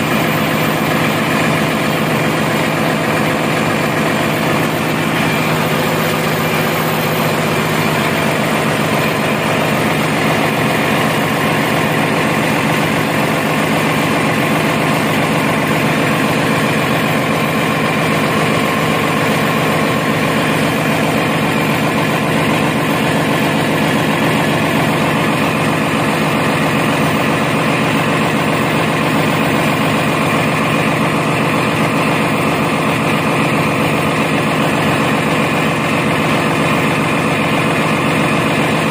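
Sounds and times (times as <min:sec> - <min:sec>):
diesel generator engine droning: 0:00.0 - 0:38.9.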